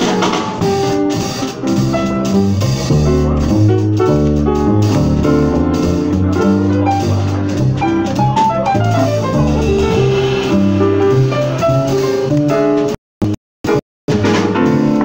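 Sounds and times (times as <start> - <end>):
drum kit: 0.0 - 15.0
upright bass walking: 0.2 - 13.4.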